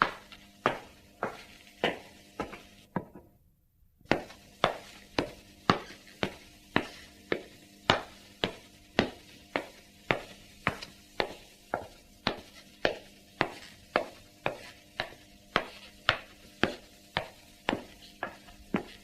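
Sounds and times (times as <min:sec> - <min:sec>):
dress shoe footsteps on hard floor: 0:00.0 - 0:03.3, 0:04.0 - 0:19.0.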